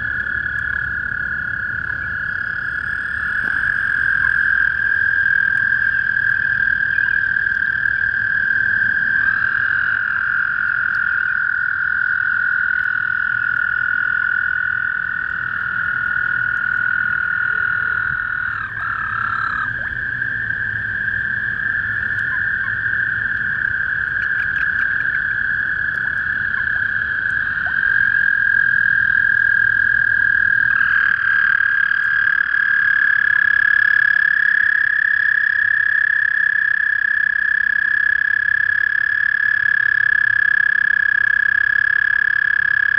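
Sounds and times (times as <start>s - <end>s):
toads trilling: 0.0s - 42.9s.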